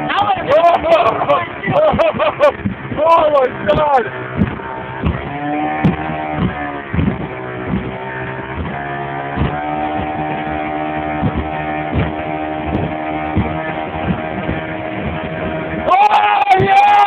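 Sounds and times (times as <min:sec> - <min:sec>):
boat engine running: 0:00.0 - 0:17.0
short thumps: 0:00.6 - 0:15.9.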